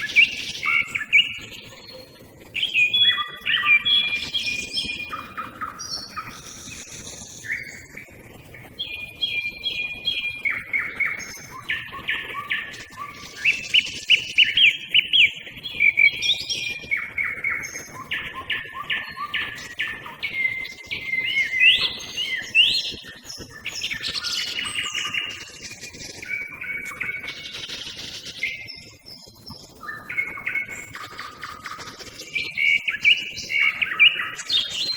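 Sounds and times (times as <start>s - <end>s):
song thrush singing: 0.0s - 1.7s, 2.6s - 8.0s, 8.8s - 28.9s, 29.8s - 34.9s
nightingale singing: 0.0s - 2.0s, 2.6s - 7.9s, 8.8s - 25.6s, 29.8s - 34.9s.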